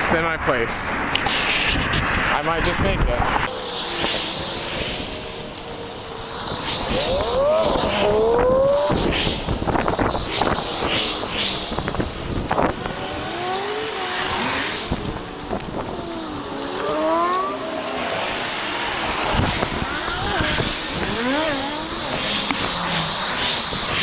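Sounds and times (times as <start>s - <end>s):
cars swishing past: 3.2s - 24.0s
wavering pitched sound: 3.5s - 24.0s.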